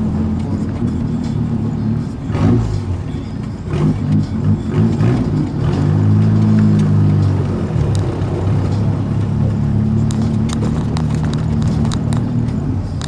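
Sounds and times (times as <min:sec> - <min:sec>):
car engine and exhaust rumbling: 0:00.0 - 0:13.0.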